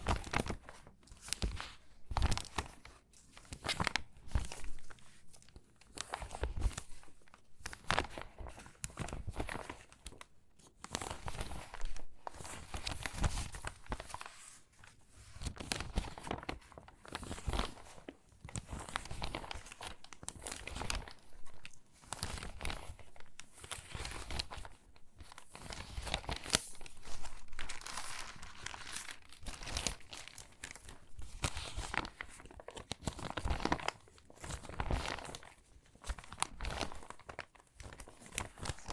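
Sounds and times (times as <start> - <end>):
magazine pages crinkling: 0.0 - 38.9.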